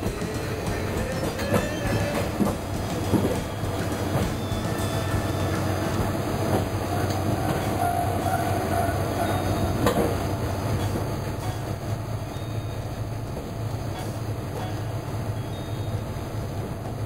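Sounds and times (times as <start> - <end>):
railcar engine hum: 0.0 - 17.0
wheels clacking over rail joints: 0.0 - 17.0.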